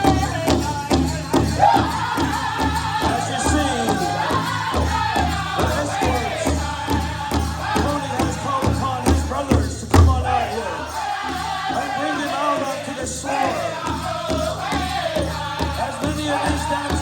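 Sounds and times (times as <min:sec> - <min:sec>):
band playing a song: 0:00.0 - 0:17.0
steady drum beat: 0:00.0 - 0:17.0.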